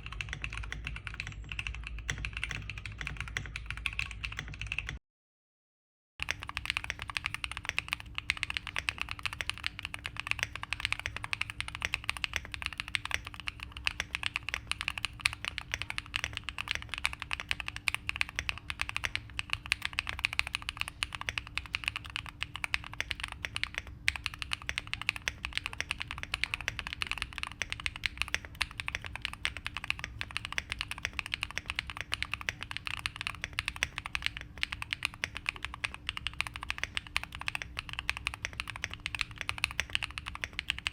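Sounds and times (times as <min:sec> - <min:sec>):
typing on mechanical keyboard: 0:00.0 - 0:05.0, 0:06.2 - 0:40.9.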